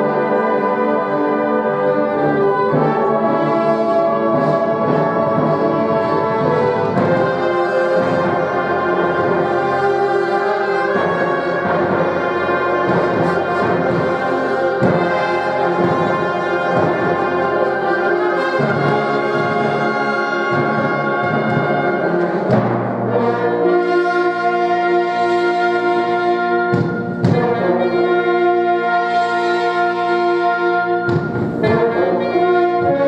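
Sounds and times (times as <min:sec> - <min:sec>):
brass sustained chords: 0:00.0 - 0:33.0.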